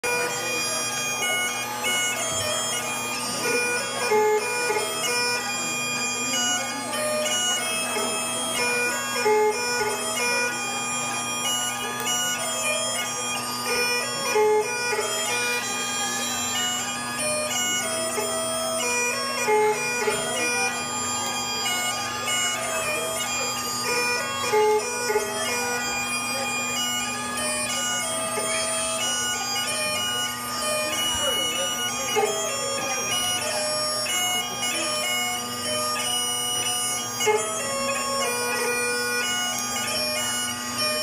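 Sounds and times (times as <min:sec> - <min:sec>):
bagpipes playing a dance tune: 0:00.0 - 0:41.0.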